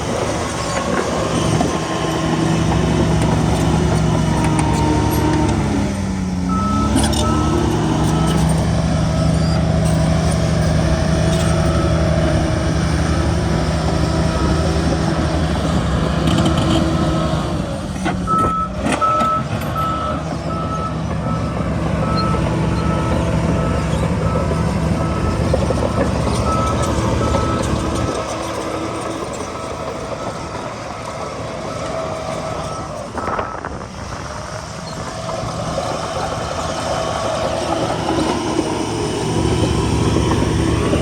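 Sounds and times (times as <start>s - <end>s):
diesel machine running: 0.0s - 41.0s.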